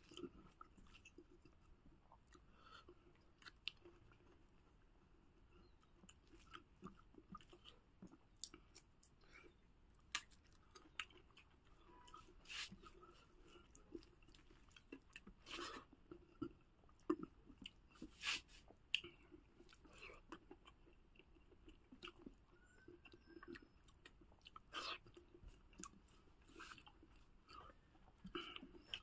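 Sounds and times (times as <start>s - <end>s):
quiet close-up chewing: 0.0s - 29.0s.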